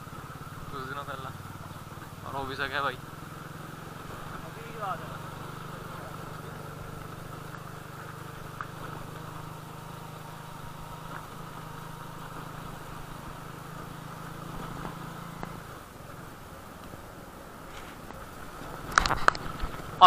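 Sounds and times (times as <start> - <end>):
motorcycle engine humming: 0.0 - 20.0.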